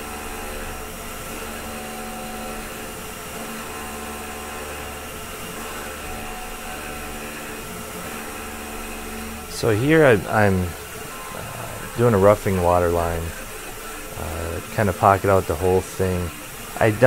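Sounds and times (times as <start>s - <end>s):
milling machine hum and whine: 0.0s - 17.0s.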